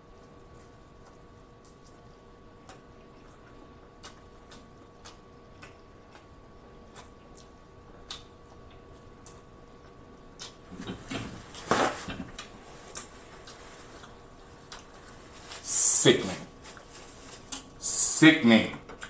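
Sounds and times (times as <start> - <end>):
chewing and lip-smacking: 0.0 - 15.4, 16.5 - 17.8.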